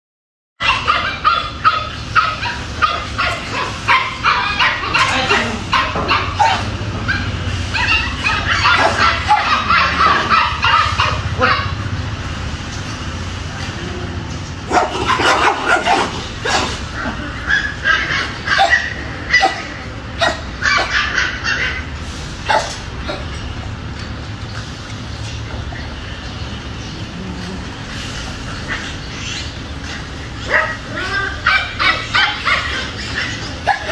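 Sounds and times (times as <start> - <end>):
dogs barking angrily: 0.6 - 33.9.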